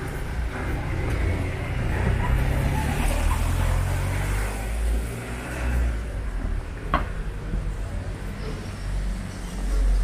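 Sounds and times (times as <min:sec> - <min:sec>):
road traffic rumble on wet street: 0:00.0 - 0:10.0.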